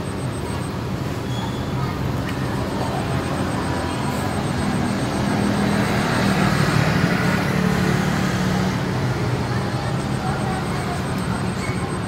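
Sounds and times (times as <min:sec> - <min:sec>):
fast high-pitched pulsing: 0:00.0 - 0:00.8, 0:01.6 - 0:12.0
engine drone: 0:00.0 - 0:12.0.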